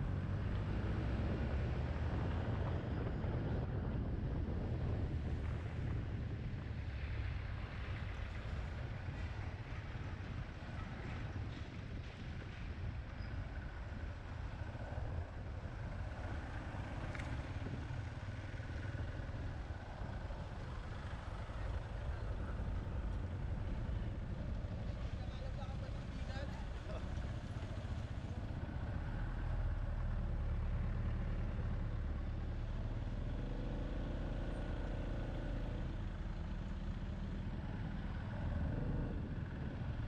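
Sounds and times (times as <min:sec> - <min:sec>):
road and wind noise: 0:00.0 - 0:40.0
motorcycle engine rumbling: 0:01.2 - 0:40.0.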